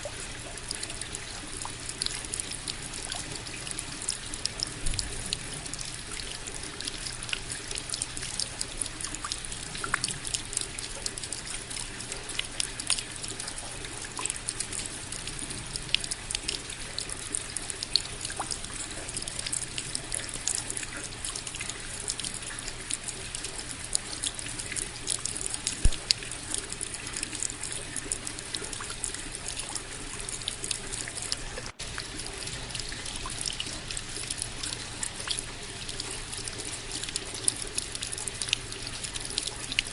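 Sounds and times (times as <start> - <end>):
steady rain falling: 0.0 - 39.9
trickling water: 0.0 - 39.9.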